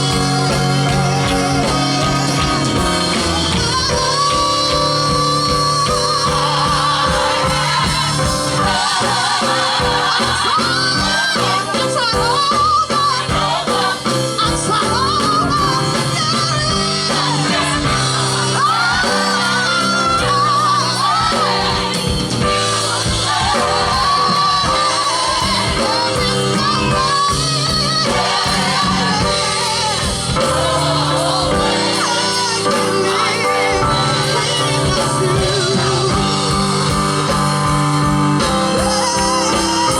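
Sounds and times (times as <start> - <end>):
band accompaniment: 0.0 - 39.9
gospel group singing: 0.0 - 39.9
lead voice singing: 0.0 - 39.9.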